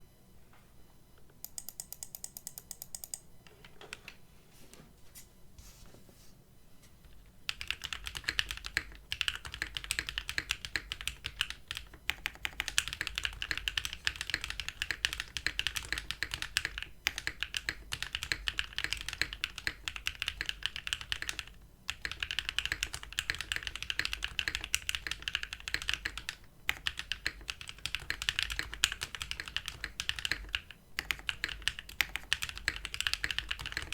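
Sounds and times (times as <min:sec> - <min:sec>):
mechanical keyboard typing: 0:01.4 - 0:04.1, 0:07.5 - 0:33.9.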